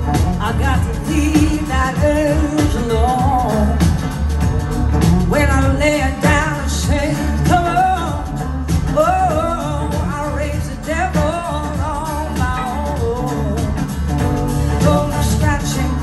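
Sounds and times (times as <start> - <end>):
blues-rock band playing: 0.0 - 16.0
woman singing lead: 0.0 - 16.0.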